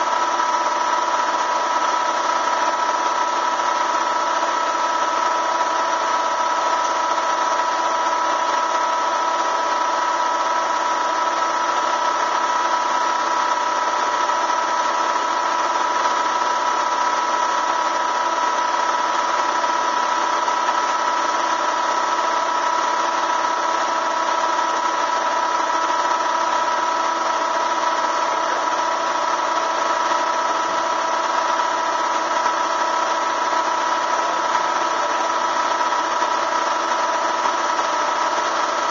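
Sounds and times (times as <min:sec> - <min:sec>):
motor whining steadily: 0:00.0 - 0:38.9.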